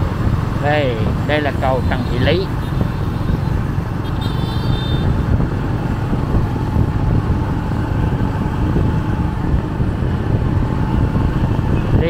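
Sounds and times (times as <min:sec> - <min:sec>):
road noise from moving vehicle: 0:00.0 - 0:12.0.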